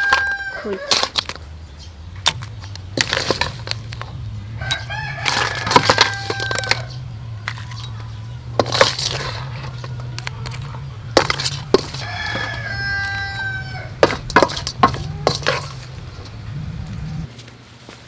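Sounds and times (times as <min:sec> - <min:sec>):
rooster crowing: 0:00.0 - 0:01.4, 0:03.2 - 0:17.3
steady low hum: 0:01.1 - 0:17.3.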